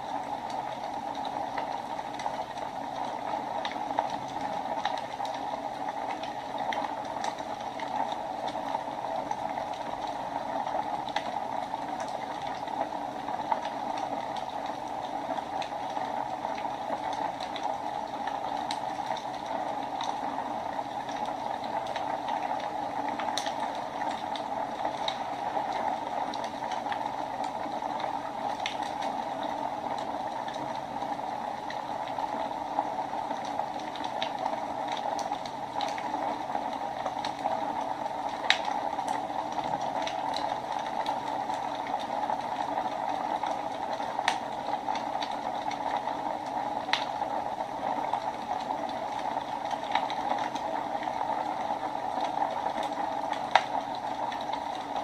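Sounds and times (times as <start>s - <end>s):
fire crackling and popping: 0.0s - 55.0s
wood fire hissing: 0.0s - 55.0s.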